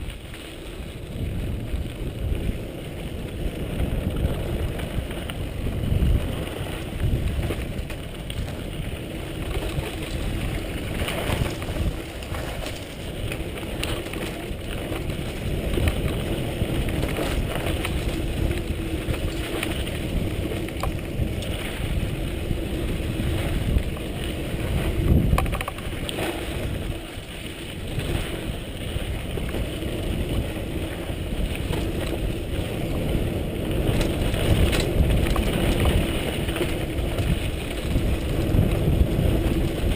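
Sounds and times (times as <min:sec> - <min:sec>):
bicycle rattling on rough trail: 0:00.0 - 0:39.9
wind on microphone: 0:00.0 - 0:39.9.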